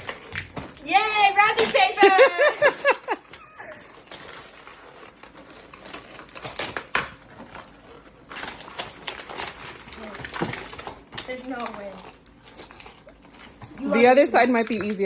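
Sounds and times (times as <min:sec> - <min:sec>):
wrapping paper tearing and crinkling: 0:00.0 - 0:15.0.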